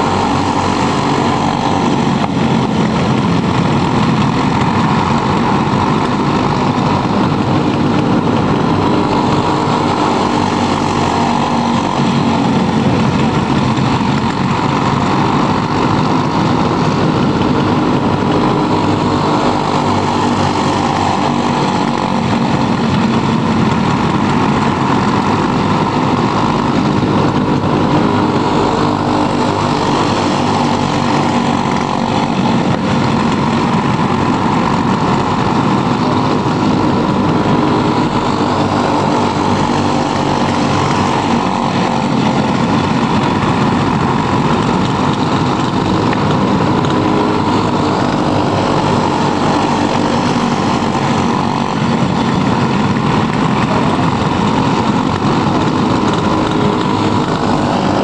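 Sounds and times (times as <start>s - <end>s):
racing kart engines drone: 0.0s - 58.0s.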